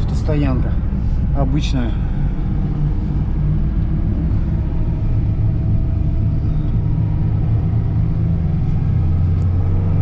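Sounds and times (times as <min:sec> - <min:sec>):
car engine rumbling: 0:00.0 - 0:10.0.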